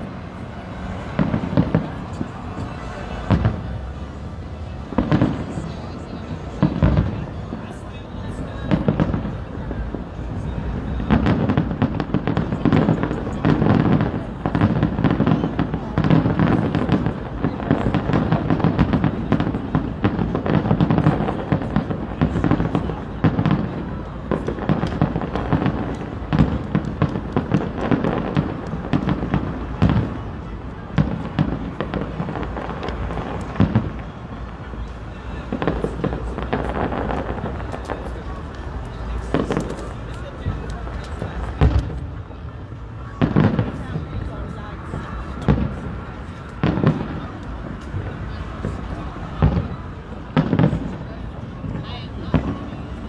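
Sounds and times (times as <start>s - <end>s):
fireworks booming and crackling: 0.0s - 53.0s.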